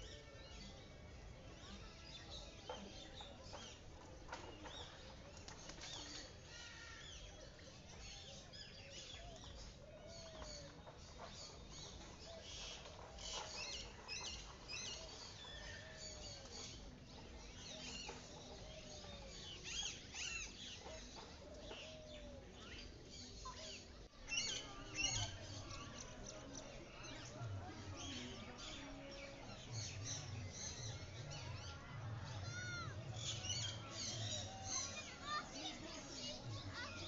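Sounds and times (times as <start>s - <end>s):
small birds chirping and twittering: 0.0s - 37.0s.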